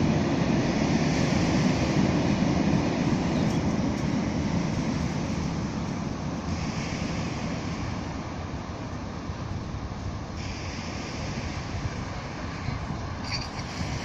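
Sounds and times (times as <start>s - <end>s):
distant freight train rumble: 0.0s - 14.0s
sea surf: 0.0s - 14.0s
wind buffeting microphone: 0.0s - 14.0s.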